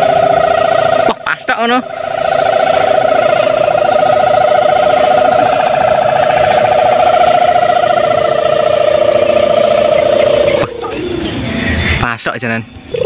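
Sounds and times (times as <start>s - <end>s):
kite hummer droning: 0.0s - 13.0s.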